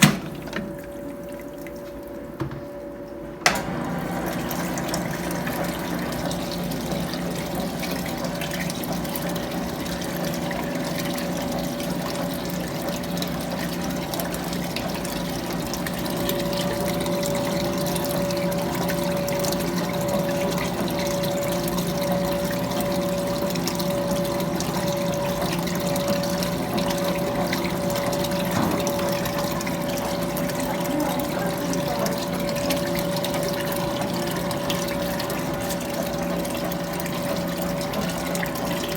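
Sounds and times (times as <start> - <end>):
running water: 0.0 - 38.9
washing machine hum: 0.0 - 38.9.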